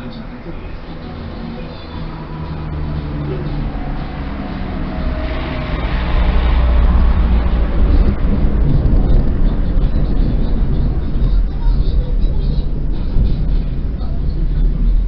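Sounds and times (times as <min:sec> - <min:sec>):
thunder rumbling: 0:02.1 - 0:15.0.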